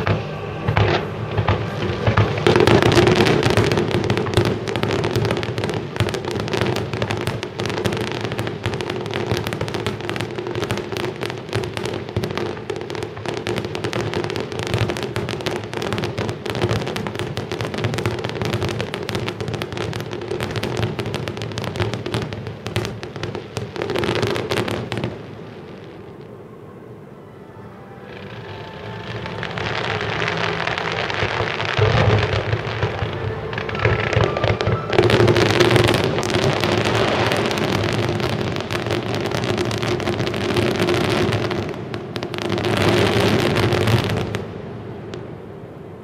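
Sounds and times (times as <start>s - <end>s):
fireworks bangs and crackles: 0.0s - 26.4s, 28.0s - 46.0s.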